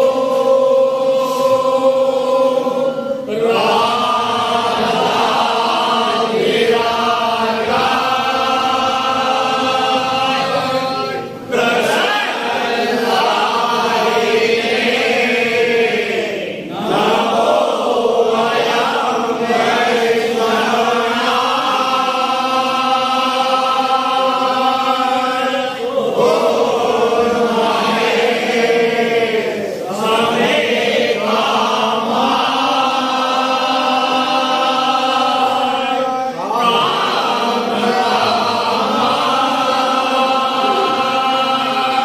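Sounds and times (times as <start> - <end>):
men and boys chanting a hymn: 0.0 - 42.0.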